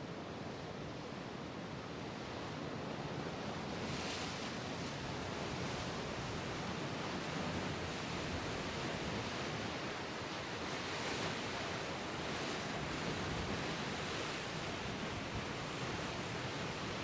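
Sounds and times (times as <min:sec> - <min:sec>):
sea surf: 0:00.1 - 0:17.0.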